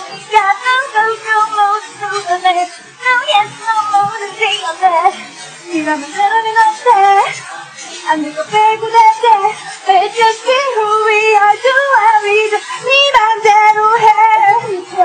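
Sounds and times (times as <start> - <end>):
women singing pop song: 0.0 - 15.0.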